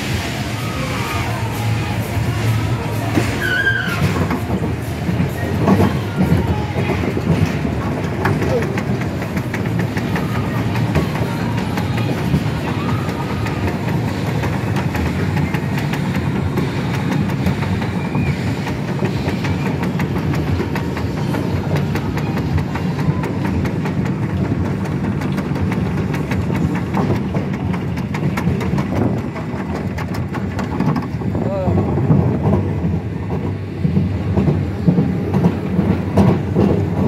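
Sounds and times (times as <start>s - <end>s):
low mechanical drone: 0.0s - 37.0s
roller coaster lift clicking: 0.0s - 37.0s.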